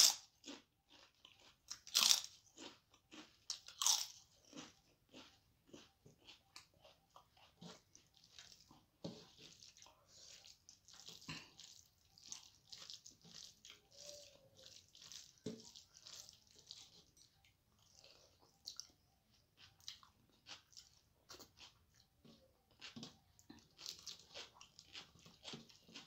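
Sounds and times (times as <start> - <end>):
fingers squishing wet rice: 1.4 - 26.0.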